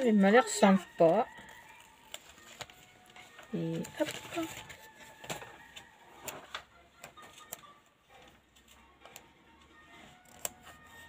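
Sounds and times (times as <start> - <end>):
faint background music: 0.0 - 11.0
fingers handling paper stickers: 0.0 - 11.0.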